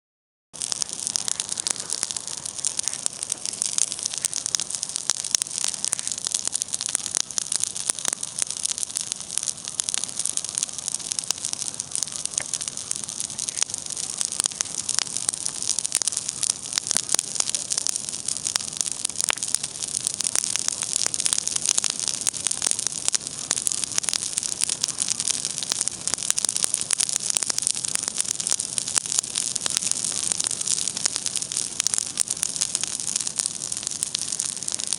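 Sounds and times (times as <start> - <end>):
campfire crackling and popping: 0.6 - 34.9
fire hissing: 0.6 - 34.9.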